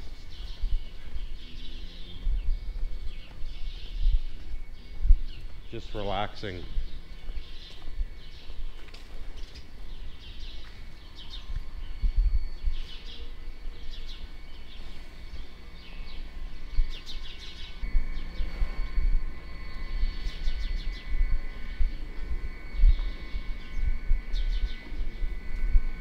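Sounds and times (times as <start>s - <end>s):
faint hum: 0.0s - 26.0s
small birds chirping: 0.0s - 26.0s
uneven low rumble: 0.0s - 26.0s.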